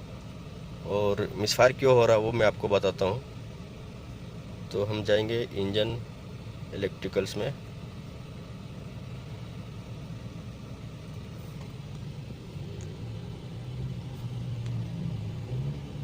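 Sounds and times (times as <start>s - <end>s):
car engine idling and misfiring: 0.0s - 16.0s.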